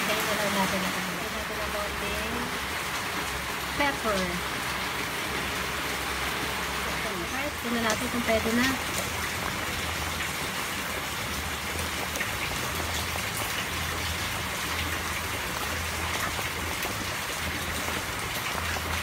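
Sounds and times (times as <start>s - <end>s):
water boiling and bubbling: 0.0s - 19.0s.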